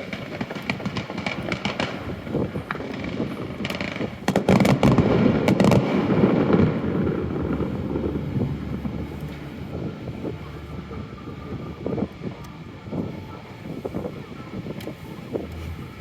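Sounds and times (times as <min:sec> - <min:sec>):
fireworks crackling bangs: 0:00.0 - 0:16.0.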